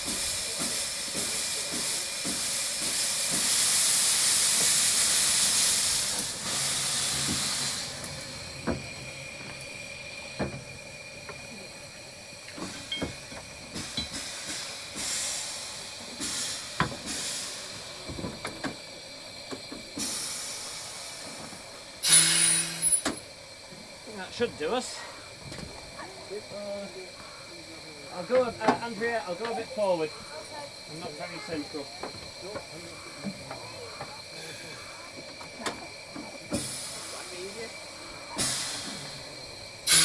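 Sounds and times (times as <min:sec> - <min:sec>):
steam locomotive hissing: 0:00.0 - 0:40.0.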